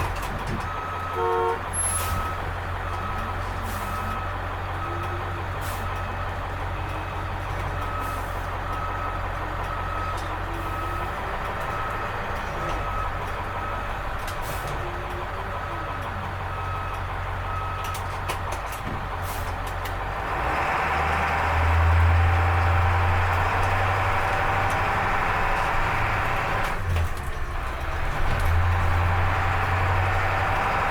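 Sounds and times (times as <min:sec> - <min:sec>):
diesel bus engine running: 0:00.0 - 0:30.9.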